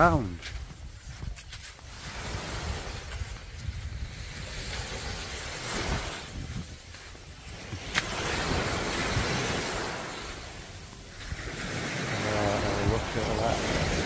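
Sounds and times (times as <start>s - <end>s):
sea waves washing onto beach: 0.0s - 14.0s
wind buffeting microphone: 0.0s - 14.0s.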